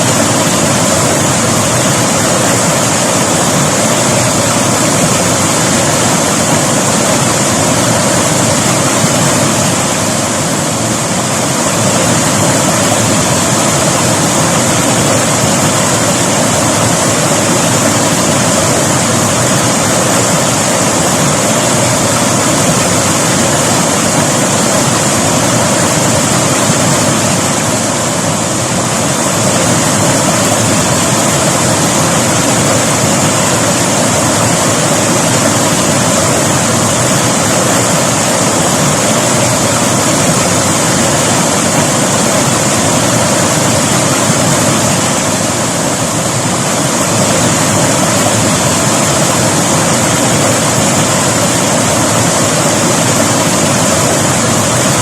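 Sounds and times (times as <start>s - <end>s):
river water rushing over rocks: 0.0s - 55.0s.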